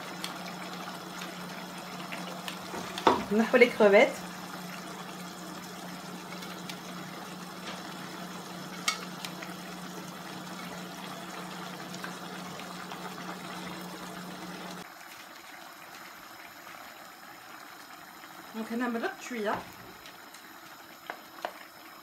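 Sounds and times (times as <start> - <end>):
sauce simmering and bubbling: 0.0 - 22.0.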